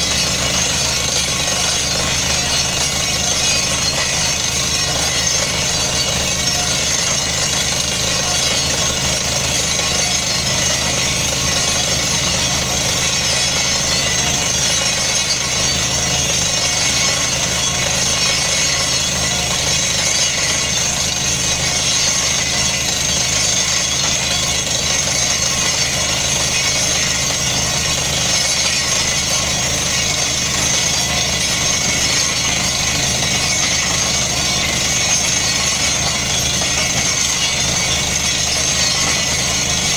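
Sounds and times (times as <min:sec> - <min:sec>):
drill working in the hole: 0:00.0 - 0:39.9
drilling rig engine and compressor: 0:00.0 - 0:39.9.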